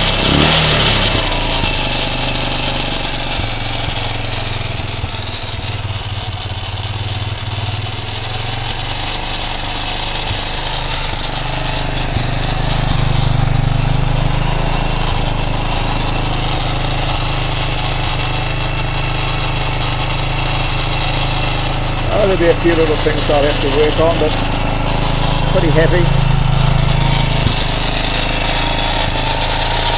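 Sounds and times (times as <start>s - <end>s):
light engine rattle: 0.0s - 29.9s
motorcycle engine idling: 0.0s - 29.9s.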